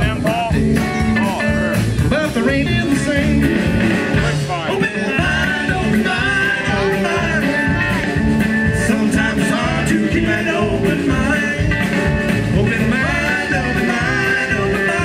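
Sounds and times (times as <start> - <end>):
band music with singer: 0.0 - 15.0
steady drum beat: 0.0 - 15.0.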